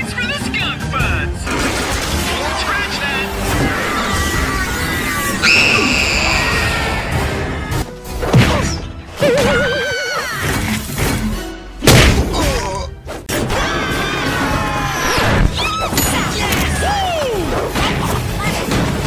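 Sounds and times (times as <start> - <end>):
cartoon background music: 0.0 - 19.0.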